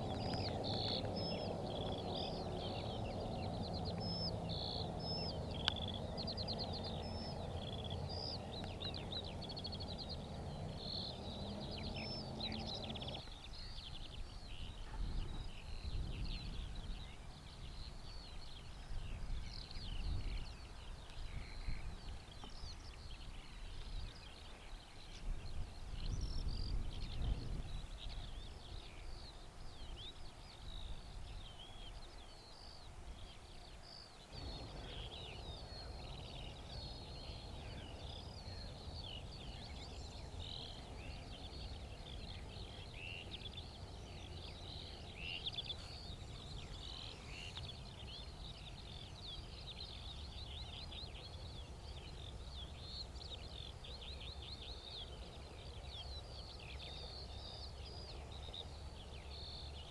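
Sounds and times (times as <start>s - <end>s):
songbirds chirping and trilling: 0.0s - 59.9s
wind rumbling on microphone: 0.0s - 59.9s.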